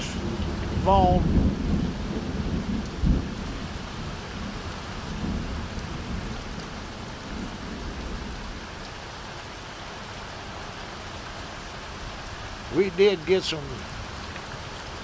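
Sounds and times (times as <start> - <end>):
rain on a canopy: 0.0 - 15.0.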